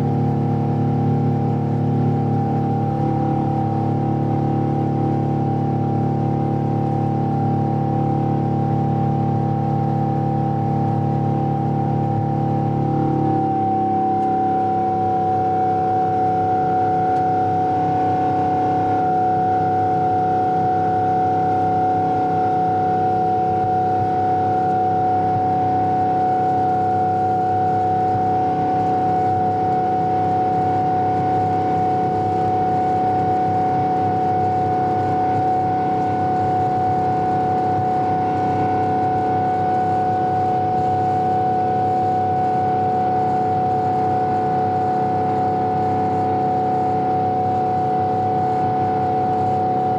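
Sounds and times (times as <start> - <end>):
constant whining tone: 0.0 - 49.9
jet engine rumble in cabin: 0.0 - 49.9.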